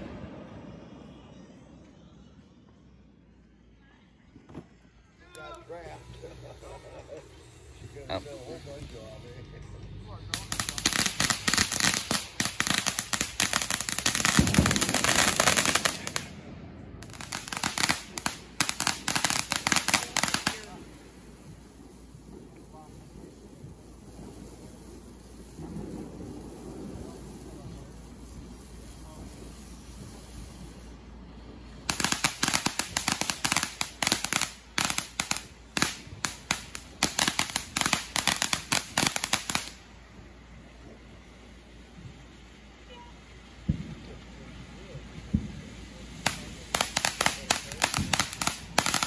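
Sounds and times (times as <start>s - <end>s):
ground firework crackling: 0.0s - 49.0s.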